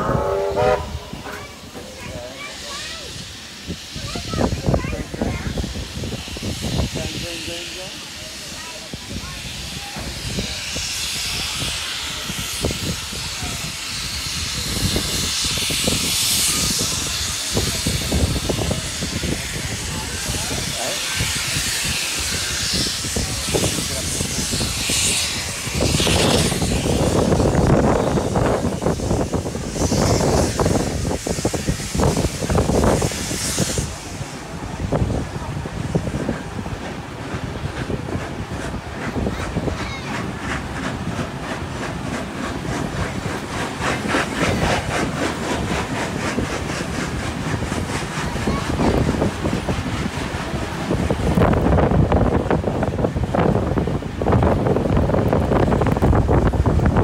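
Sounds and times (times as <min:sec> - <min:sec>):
passengers talking: 0:00.0 - 0:57.0
steam hissing: 0:00.0 - 0:57.0
steam train running rumble: 0:00.0 - 0:57.0.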